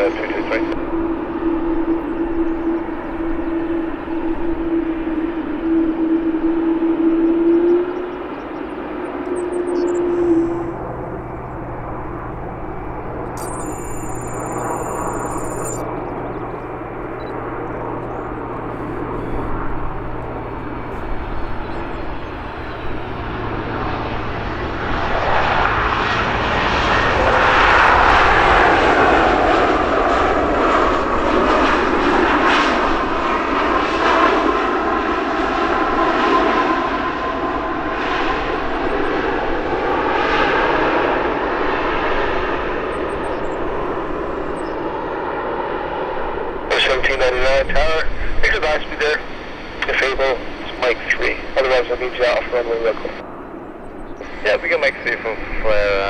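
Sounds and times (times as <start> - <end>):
airliner engines passing: 0.0 - 56.0.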